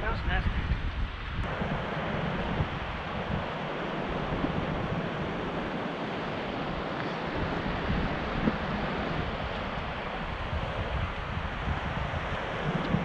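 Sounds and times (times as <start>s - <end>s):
fast-flowing river rushing: 1.4s - 13.0s.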